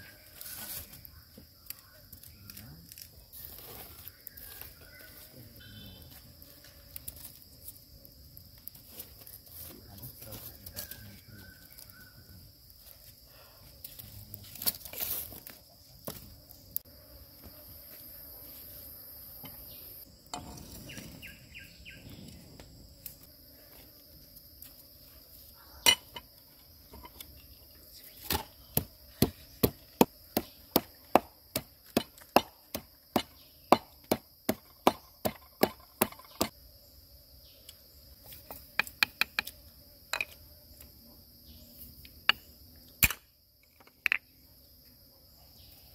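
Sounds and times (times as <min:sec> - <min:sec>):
high drone of insects: 0:00.0 - 0:45.9.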